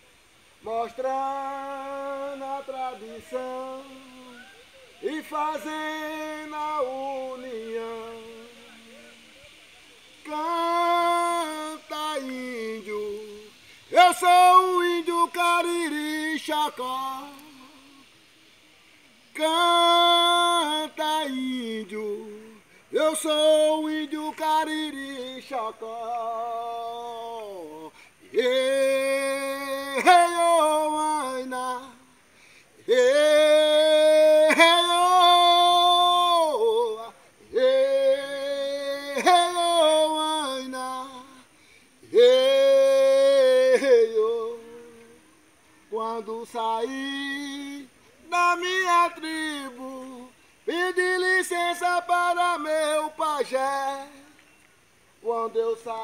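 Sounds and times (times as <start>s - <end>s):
man singing unaccompanied chant: 0.0s - 56.0s.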